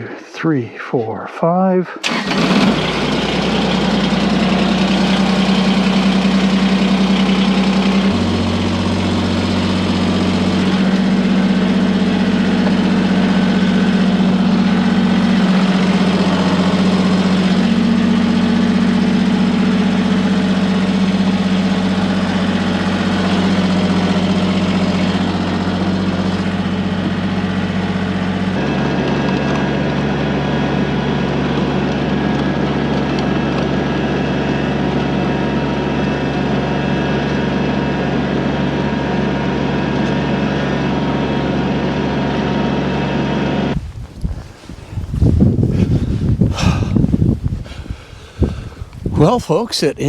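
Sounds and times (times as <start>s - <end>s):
diesel tractor engine idling: 2.0s - 43.8s, 45.4s - 50.0s.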